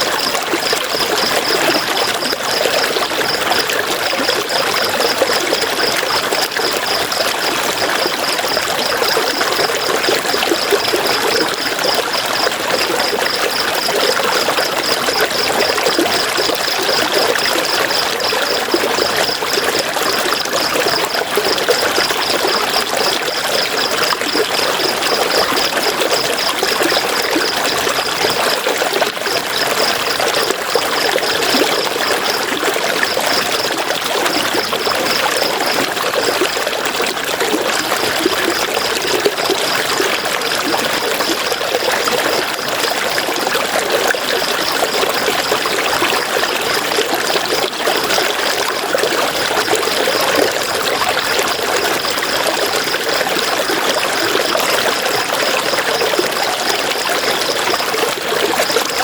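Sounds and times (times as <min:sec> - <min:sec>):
river water over rocks: 0:00.0 - 0:59.0.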